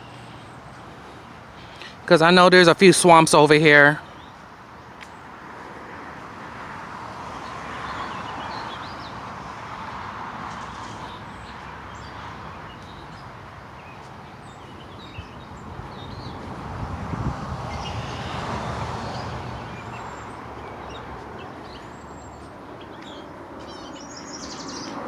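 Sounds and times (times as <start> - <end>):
birds chirping: 0.0 - 25.0
highway traffic passing: 0.0 - 25.0.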